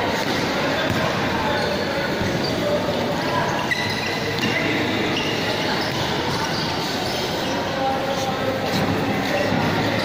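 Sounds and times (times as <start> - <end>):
crowd shouting and chattering: 0.0 - 10.0.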